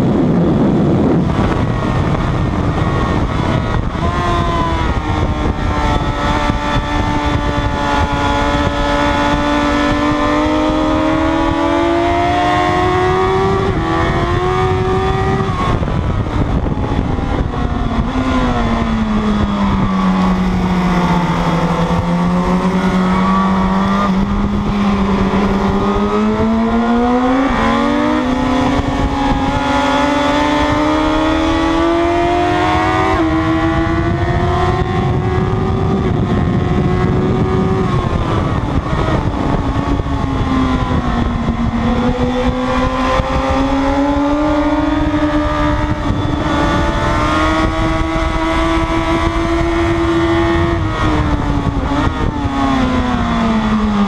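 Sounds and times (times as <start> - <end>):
sportbike engine at racing speed: 0.0 - 54.0
wind rush on microphone: 0.0 - 54.0.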